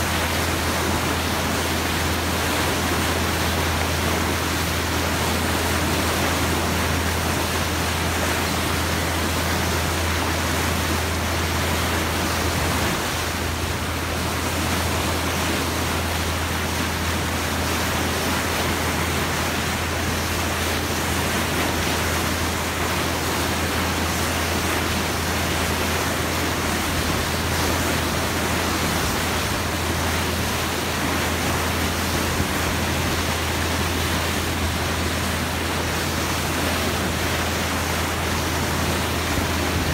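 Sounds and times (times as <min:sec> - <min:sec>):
bow wave splashing: 0:00.0 - 0:39.9
low engine hum: 0:00.0 - 0:39.9.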